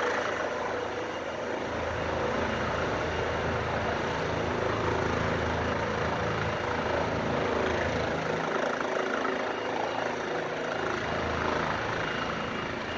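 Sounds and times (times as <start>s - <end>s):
helicopter rotor and engine: 0.0s - 12.9s.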